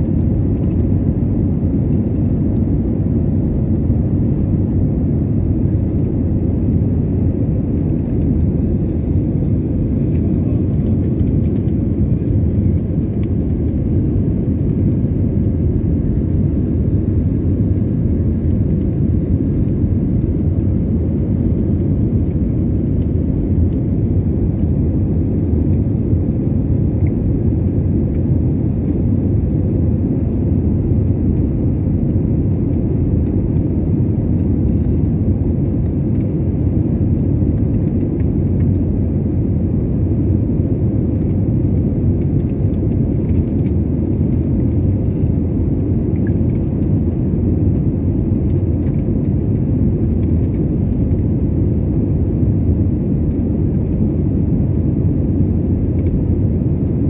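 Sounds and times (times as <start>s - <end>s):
jet cabin engine rumble: 0.0s - 57.0s.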